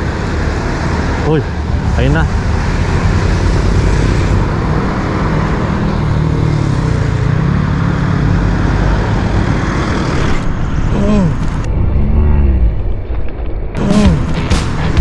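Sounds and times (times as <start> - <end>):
road traffic noise: 0.0 - 15.0
vehicle engines running close by: 0.0 - 15.0.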